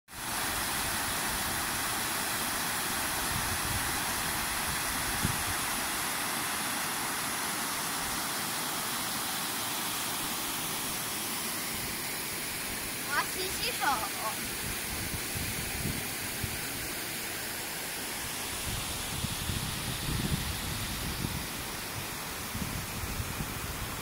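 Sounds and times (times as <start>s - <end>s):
waterfall rushing: 0.2s - 24.0s.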